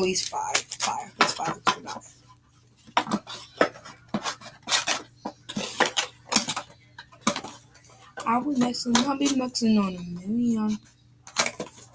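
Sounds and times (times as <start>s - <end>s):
small hard items clacking: 0.0s - 2.0s, 2.8s - 11.9s.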